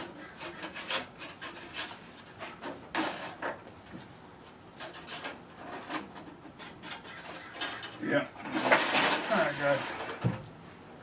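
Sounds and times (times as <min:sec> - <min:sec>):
hands rubbing and scraping panels: 0:00.0 - 0:10.8.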